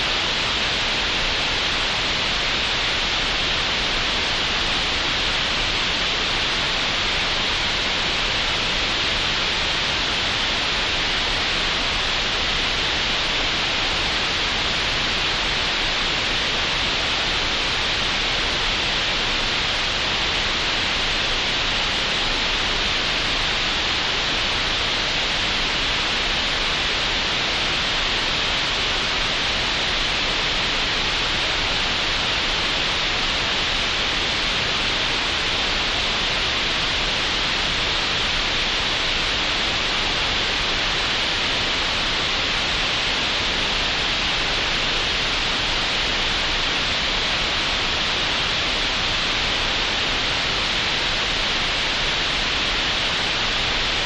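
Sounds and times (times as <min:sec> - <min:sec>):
steady green noise hiss: 0:00.0 - 0:54.0.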